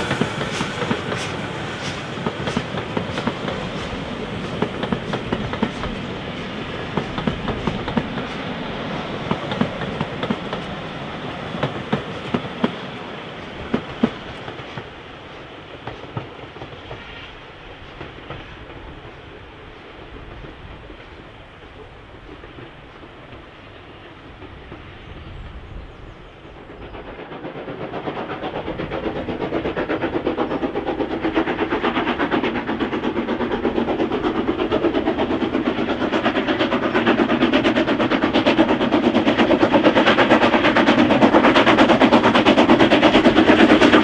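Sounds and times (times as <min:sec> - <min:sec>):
train wheels clicking over rail joints: 0:00.0 - 0:44.0.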